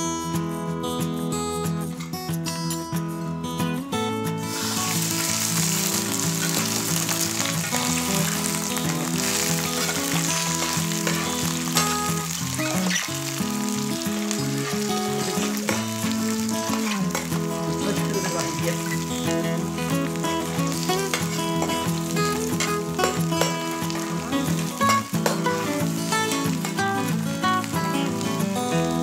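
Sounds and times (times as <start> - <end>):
shrimp sizzling in hot oil: 4.4 - 29.0.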